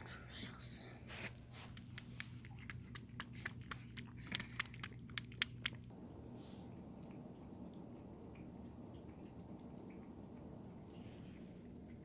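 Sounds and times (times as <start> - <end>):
cat lapping from a dish: 1.3 - 12.0.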